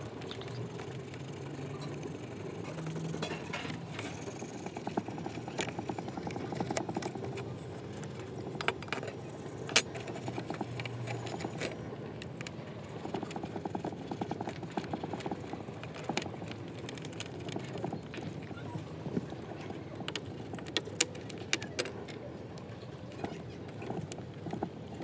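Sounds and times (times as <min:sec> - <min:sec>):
toothbrush scrubbing metal parts: 0:00.0 - 0:22.1.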